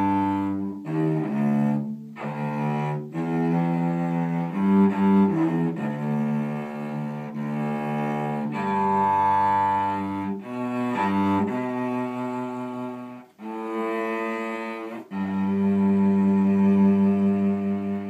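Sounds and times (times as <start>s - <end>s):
bowed string instrument long notes: 0.0s - 18.0s.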